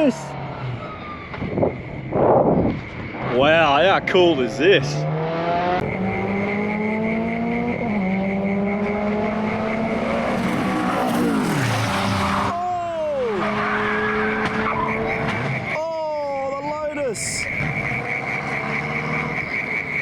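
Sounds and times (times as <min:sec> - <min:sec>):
rally car engine revving: 0:00.0 - 0:15.8, 0:17.4 - 0:20.0.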